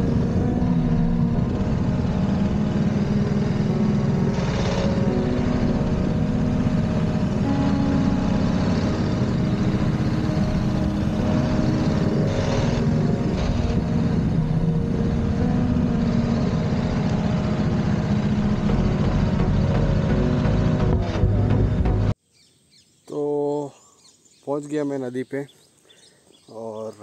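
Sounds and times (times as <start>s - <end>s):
motorcycle engine running: 0.0s - 22.1s.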